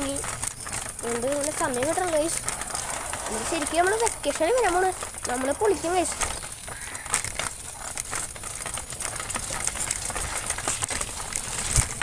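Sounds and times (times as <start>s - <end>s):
bicycle tyres crunching on dirt: 0.0s - 12.0s.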